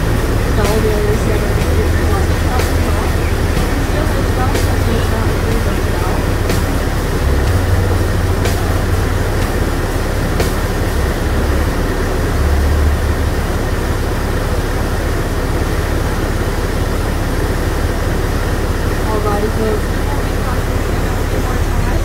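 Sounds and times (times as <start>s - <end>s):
deep low rumble: 0.0s - 22.0s
whitewater rushing: 0.0s - 22.0s.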